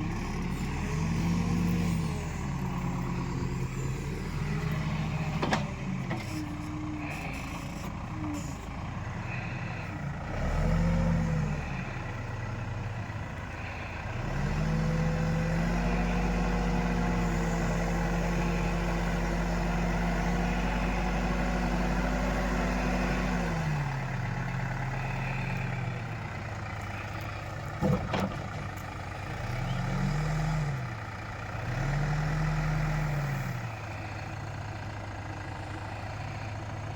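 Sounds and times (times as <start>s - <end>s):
heavy diesel engine revving: 0.0s - 36.9s.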